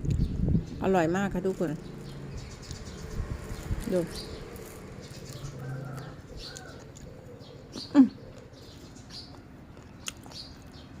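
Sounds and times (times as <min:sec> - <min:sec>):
bird chirping: 0:00.1 - 0:11.0.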